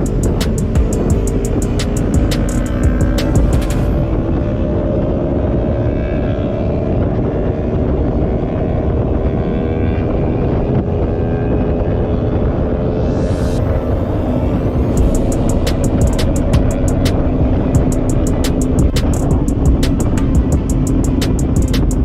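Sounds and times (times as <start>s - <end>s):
motorcycle engine running: 0.0s - 22.0s
road rumble: 0.0s - 22.0s
wind: 0.0s - 22.0s.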